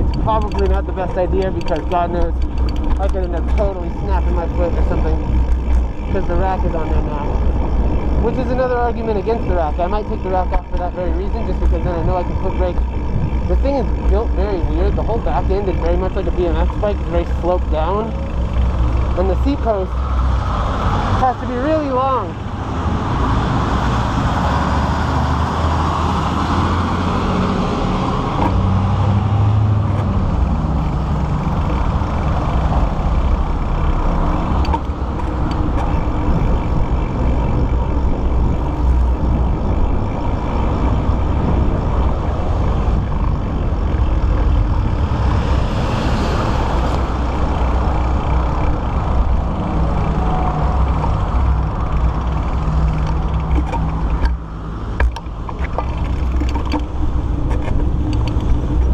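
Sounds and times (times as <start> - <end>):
wind buffeting microphone: 0.0 - 21.4, 22.0 - 58.9
tyre and road noise: 0.0 - 58.9.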